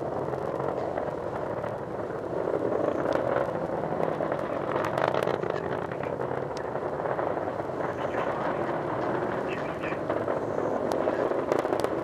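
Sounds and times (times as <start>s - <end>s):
rocket engine rumble with crackles: 0.0s - 12.0s.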